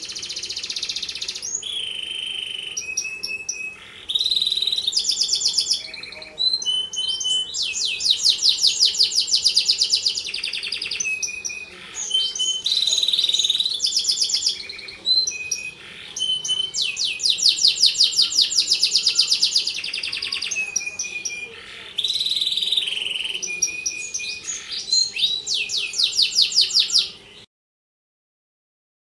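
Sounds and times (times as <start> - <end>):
canary singing trills: 0.0 - 27.5.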